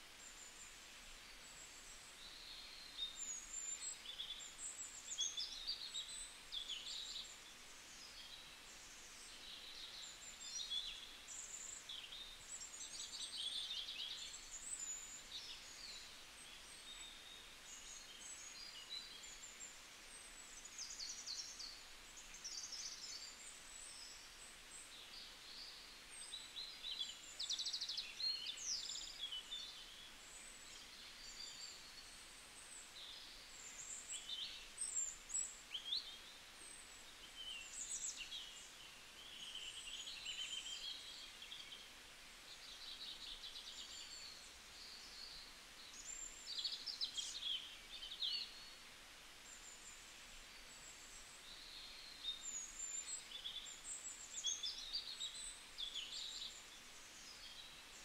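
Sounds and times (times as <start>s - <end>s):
small birds chirping and trilling: 1.4s - 58.0s.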